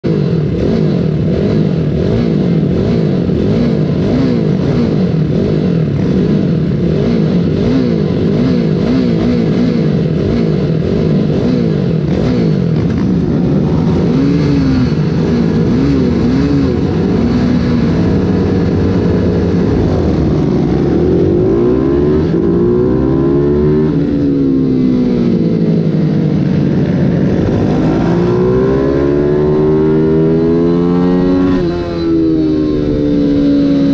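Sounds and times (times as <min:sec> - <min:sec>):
motorbike engine revving: 0:00.1 - 0:33.9.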